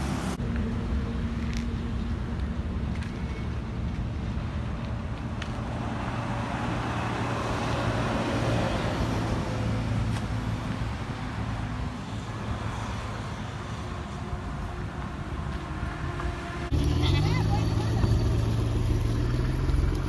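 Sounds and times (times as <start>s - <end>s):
vehicle engine hum with road noise: 0.0s - 20.0s.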